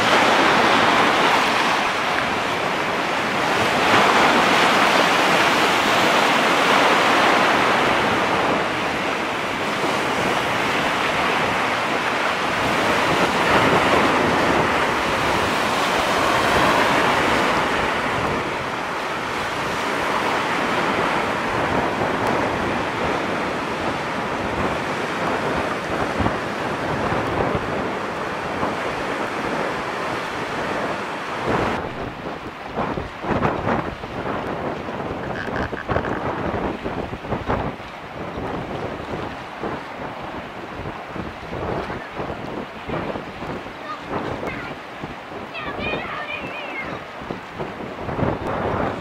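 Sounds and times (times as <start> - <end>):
water washing over sand: 0.0 - 49.0
wind buffeting microphone: 0.0 - 49.0.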